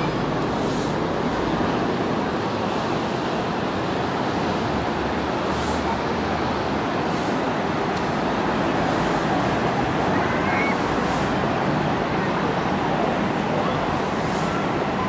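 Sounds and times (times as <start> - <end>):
city traffic roar: 0.0 - 15.0.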